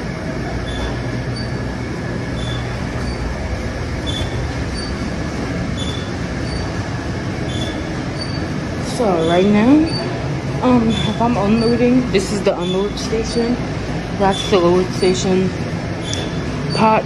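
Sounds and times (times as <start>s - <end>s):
dishwashing machine running: 0.0s - 17.0s.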